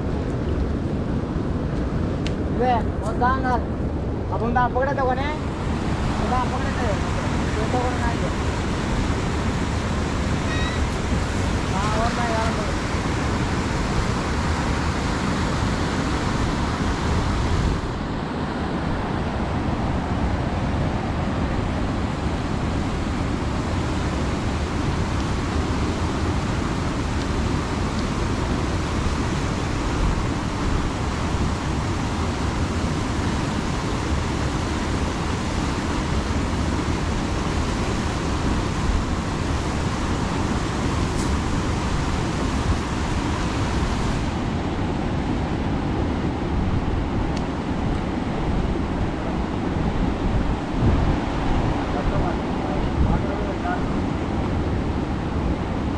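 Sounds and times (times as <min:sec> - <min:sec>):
river rapids rushing over rocks: 0:04.8 - 0:55.9.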